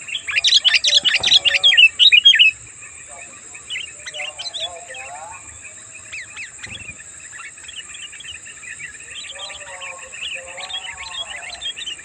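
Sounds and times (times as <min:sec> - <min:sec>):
birds chattering: 0:00.0 - 0:12.0
drawn-out bird calls: 0:00.0 - 0:12.0
high insect-like whine: 0:00.0 - 0:12.0.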